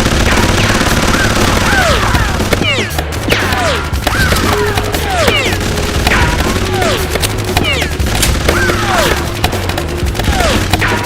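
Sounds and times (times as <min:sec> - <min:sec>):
rapid gunfire: 0:00.0 - 0:11.0.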